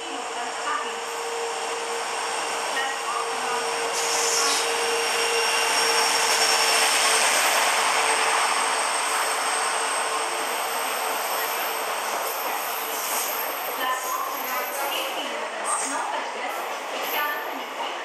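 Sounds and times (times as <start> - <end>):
diesel locomotive passing: 0.0 - 18.0
passenger coaches rolling by: 0.0 - 18.0.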